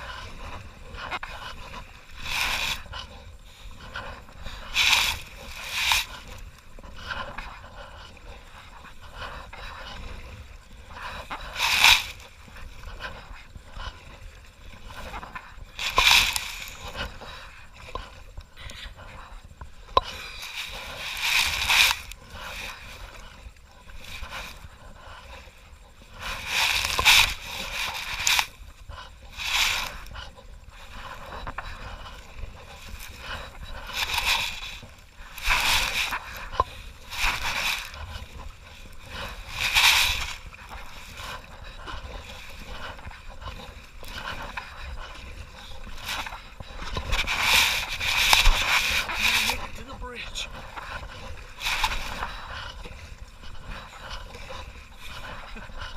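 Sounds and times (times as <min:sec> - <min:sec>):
paddle splashing in river water: 0:00.0 - 0:55.9.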